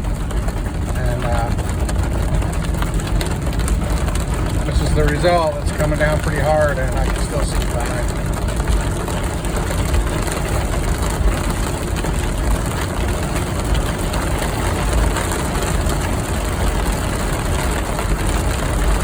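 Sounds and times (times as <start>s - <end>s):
car engine and road rumble: 0.0s - 19.0s
rain hissing on car: 0.0s - 19.0s.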